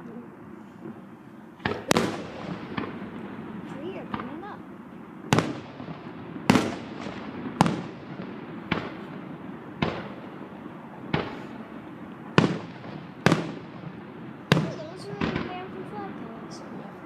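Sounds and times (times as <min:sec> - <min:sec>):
firework shells bursting: 0:00.4 - 0:16.6.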